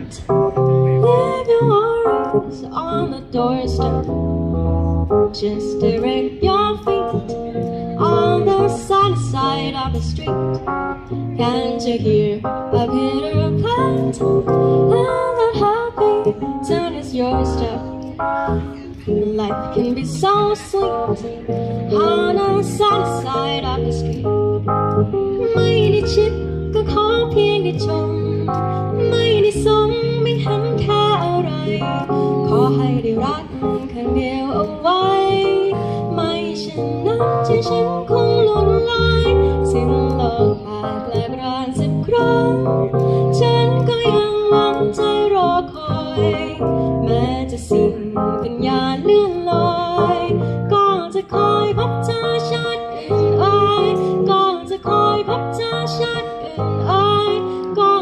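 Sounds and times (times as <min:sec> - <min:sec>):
electronic keyboard accompaniment: 0:00.0 - 0:58.0
woman singing: 0:01.0 - 0:04.3, 0:05.1 - 0:24.4, 0:25.3 - 0:58.0.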